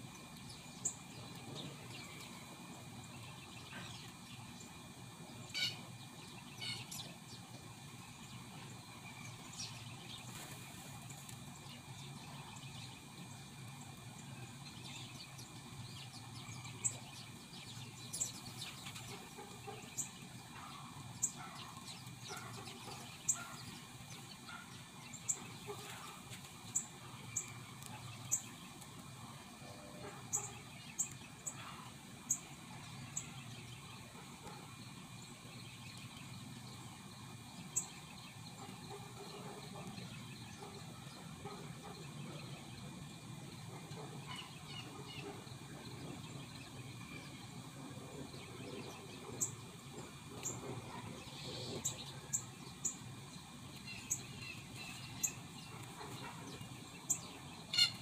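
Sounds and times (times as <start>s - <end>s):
birds chirping: 0.0s - 58.0s
low background hum: 0.0s - 58.0s.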